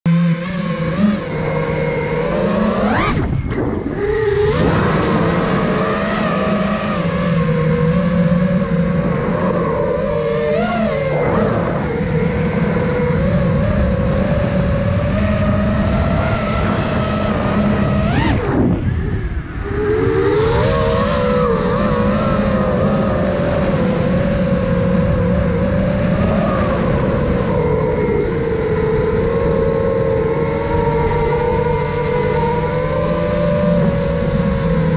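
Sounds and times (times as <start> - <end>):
drone motors and propellers whining: 0.1 - 34.9.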